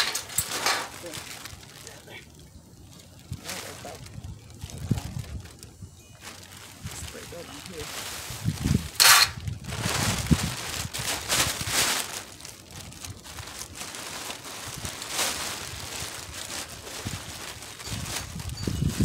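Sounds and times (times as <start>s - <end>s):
wind gusting on microphone: 0.0s - 12.0s, 14.6s - 19.0s
plastic tarp rustling and crinkling: 0.0s - 19.0s.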